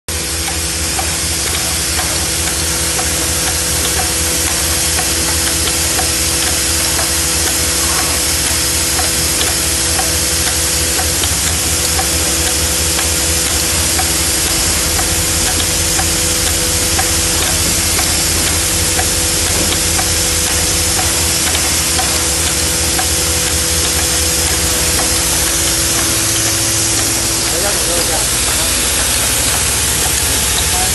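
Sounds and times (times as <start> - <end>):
machine hiss and hum: 0.1 - 30.9.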